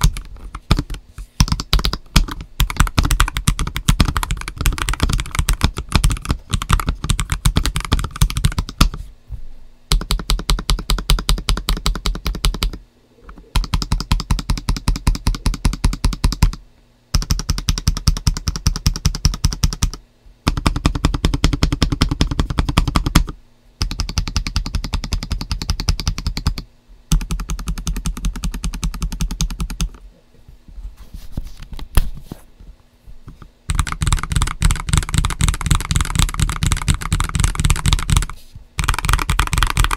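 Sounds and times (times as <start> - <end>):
mechanical keyboard typing: 0.0 - 9.0, 9.9 - 30.0, 33.3 - 39.9.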